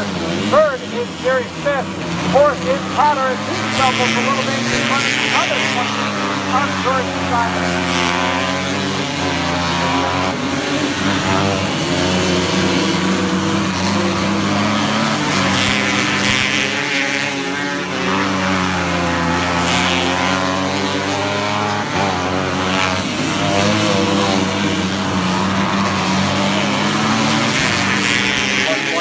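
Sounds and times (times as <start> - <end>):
racing car engines at full throttle: 0.0 - 29.0.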